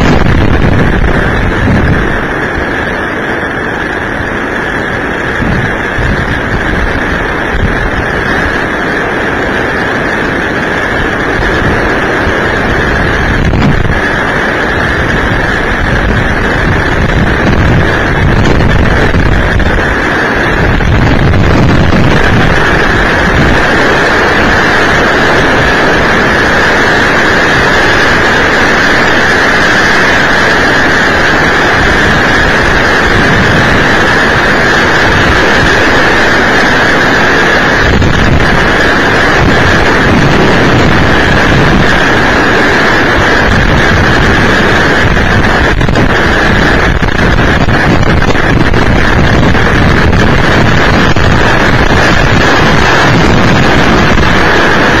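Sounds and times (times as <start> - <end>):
storm wind buffeting microphone: 0.0 - 55.0.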